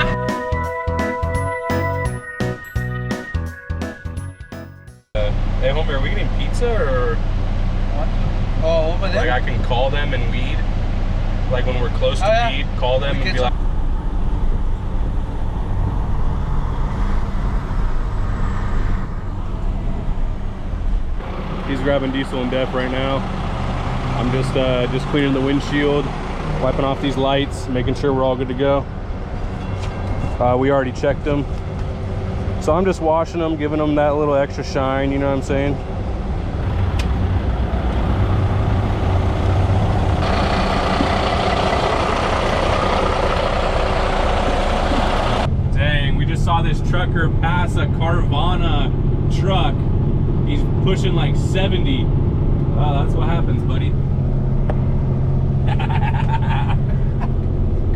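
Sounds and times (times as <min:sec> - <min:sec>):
diesel engine droning: 0:00.0 - 0:57.9
road and wind noise: 0:05.2 - 0:57.9.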